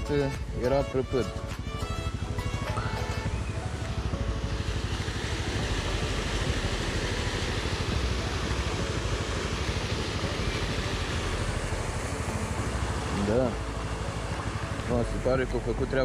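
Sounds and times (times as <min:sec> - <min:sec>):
atv engine running: 0:00.0 - 0:16.0
steady broad hiss: 0:03.0 - 0:16.0.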